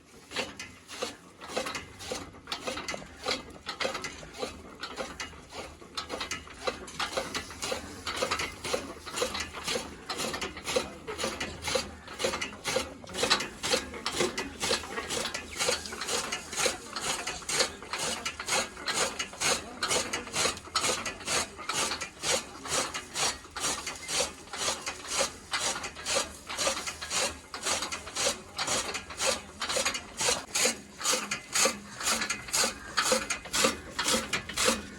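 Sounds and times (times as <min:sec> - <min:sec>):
machine clacking: 0:00.3 - 0:34.9.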